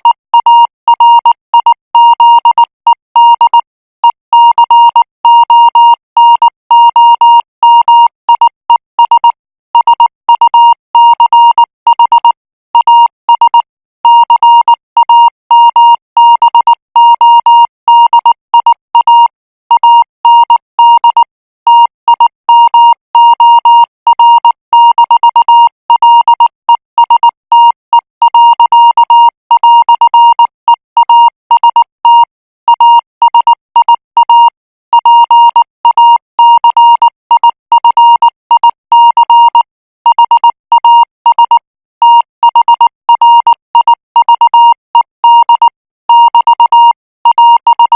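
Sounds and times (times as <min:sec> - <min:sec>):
morse code beeps: 0:00.0 - 0:47.9.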